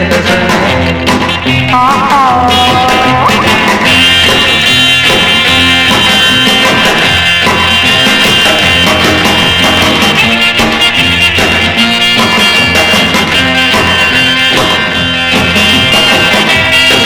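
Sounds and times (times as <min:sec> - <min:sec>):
rock and roll band playing: 0:00.0 - 0:17.0
walking bass line: 0:00.0 - 0:17.0.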